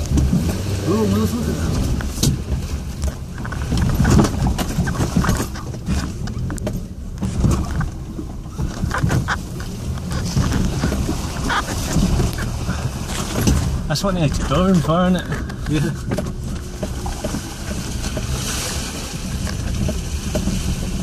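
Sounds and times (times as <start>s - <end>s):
car knocks and rattles: 0.0s - 21.0s
low engine rumble: 0.0s - 21.0s.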